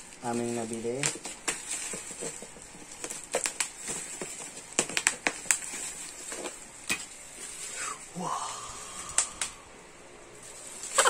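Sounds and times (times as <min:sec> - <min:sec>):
plastic crinkling: 0:00.0 - 0:09.6, 0:10.3 - 0:11.0.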